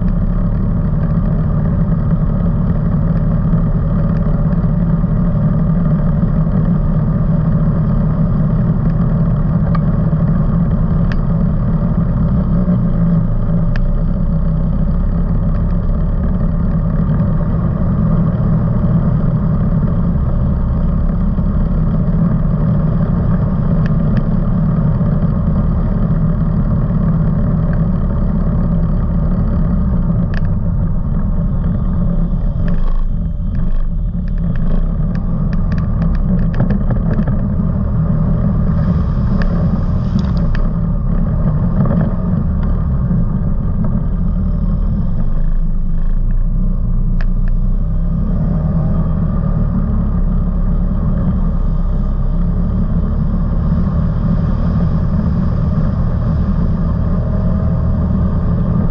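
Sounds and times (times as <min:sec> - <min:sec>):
off-road vehicle engine running: 0:00.0 - 0:58.9.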